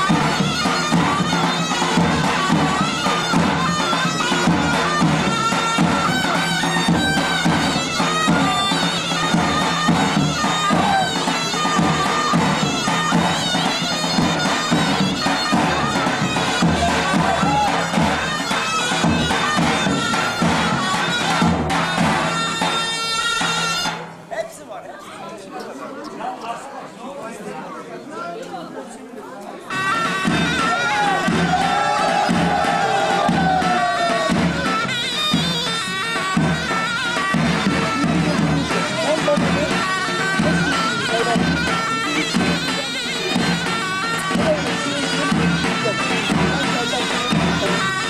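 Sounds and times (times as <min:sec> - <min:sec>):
bagpipe folk dance music: 0:00.0 - 0:24.2, 0:29.6 - 0:48.0.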